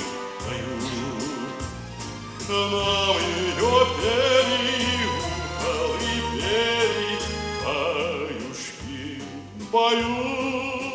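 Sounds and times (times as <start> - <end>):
instrumental accompaniment: 0.0 - 10.9
person singing with vibrato: 0.0 - 10.9.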